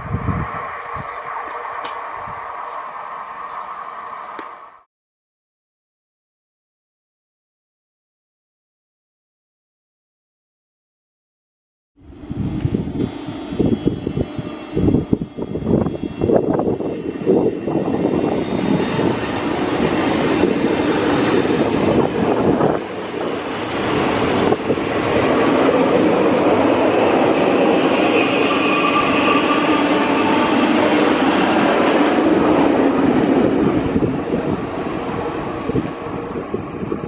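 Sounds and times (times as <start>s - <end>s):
electric train whining: 0.0s - 4.9s, 12.0s - 37.0s
rail rumbling: 0.0s - 4.9s, 12.0s - 37.0s.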